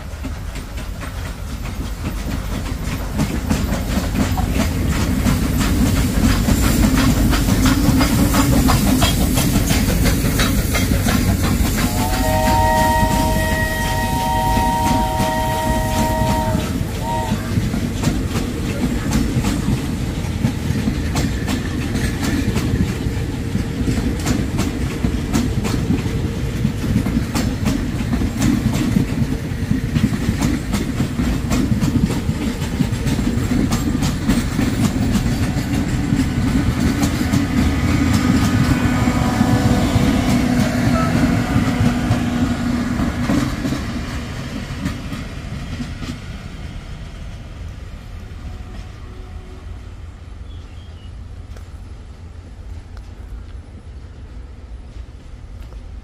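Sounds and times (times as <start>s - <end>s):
train wheels clicking over joints: 0.0s - 47.8s.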